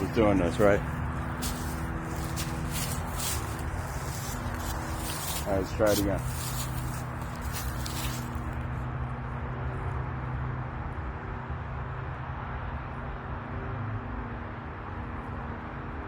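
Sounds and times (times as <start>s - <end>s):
low engine hum: 0.0s - 16.0s
road traffic rumble: 0.0s - 16.0s.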